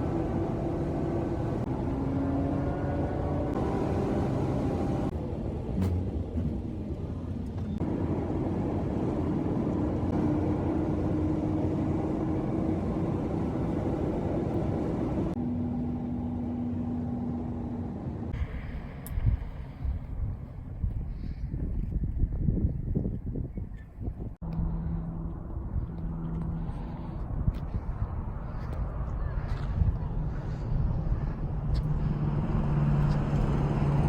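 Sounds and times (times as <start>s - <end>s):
car engine drone: 0.0s - 20.3s, 24.4s - 34.0s
tyre and road noise: 0.0s - 34.0s.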